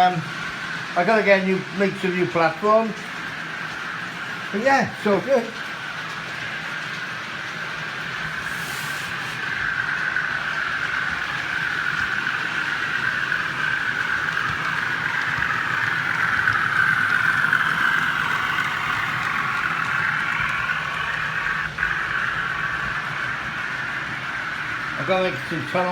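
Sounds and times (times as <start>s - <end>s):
model train motor whirring: 0.0s - 25.9s.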